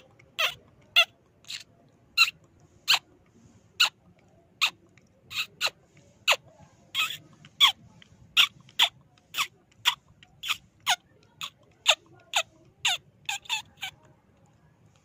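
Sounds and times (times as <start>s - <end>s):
rat squeaks: 0.0s - 15.0s.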